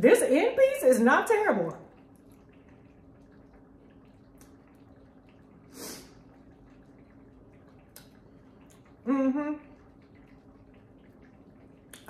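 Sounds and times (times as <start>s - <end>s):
faint steady hum: 0.0s - 12.0s
chewing cake: 1.8s - 12.0s.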